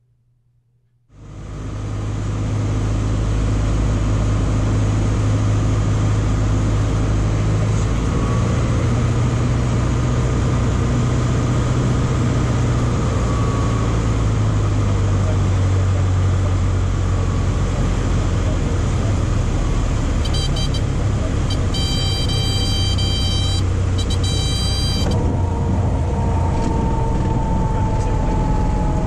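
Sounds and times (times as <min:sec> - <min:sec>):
airplane engine and propeller droning: 0:01.2 - 0:29.0.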